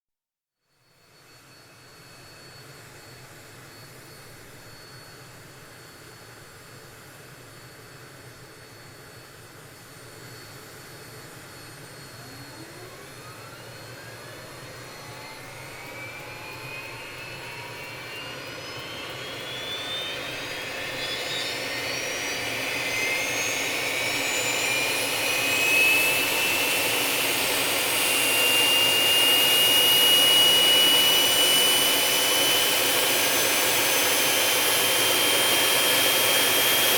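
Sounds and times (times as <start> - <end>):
jet turbine whine: 1.0 - 36.9
jet engine low running: 1.2 - 36.9.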